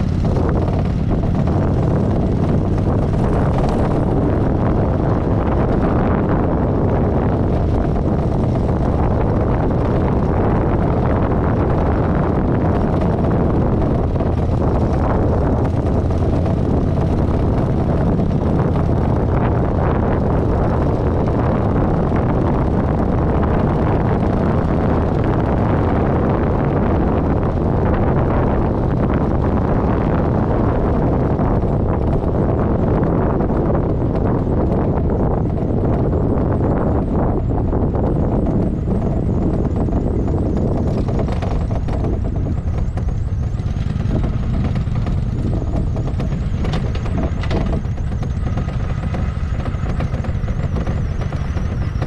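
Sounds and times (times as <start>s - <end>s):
motorcycle engine running: 0.0s - 52.0s
wind buffeting microphone: 0.0s - 52.0s.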